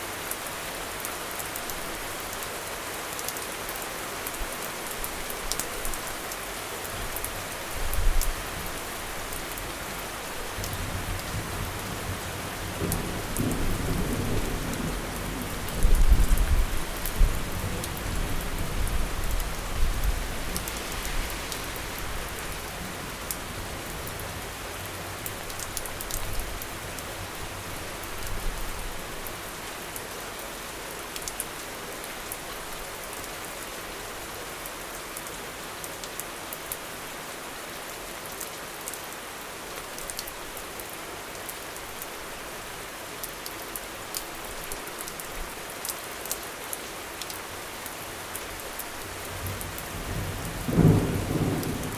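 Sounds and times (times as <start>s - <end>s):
rain on hard surfaces: 0.0s - 51.9s.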